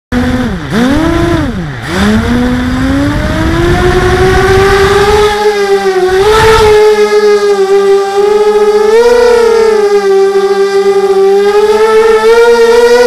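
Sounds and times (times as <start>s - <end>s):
drone motors whining: 0.1s - 13.0s.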